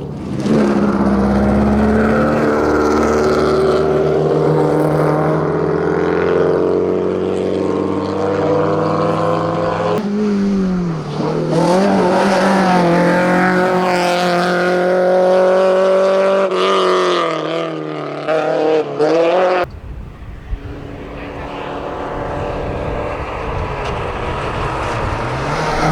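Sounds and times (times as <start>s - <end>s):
race car engine at high revs: 0.0s - 25.9s.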